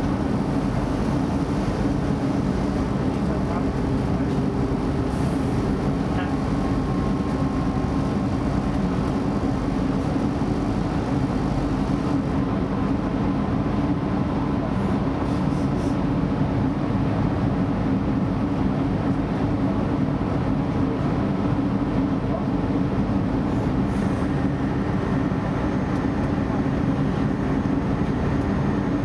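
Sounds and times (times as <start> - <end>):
train drivetrain drone: 0.0 - 29.0
train wheels rumbling on rails: 0.0 - 29.0.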